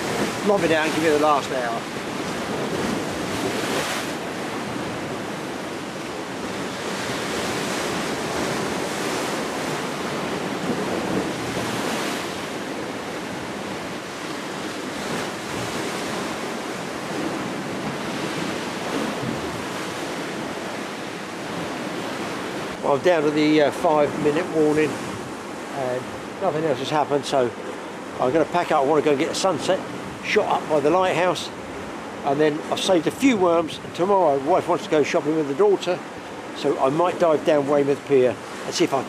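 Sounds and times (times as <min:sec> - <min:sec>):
waves breaking on rocks: 0:00.0 - 0:39.0.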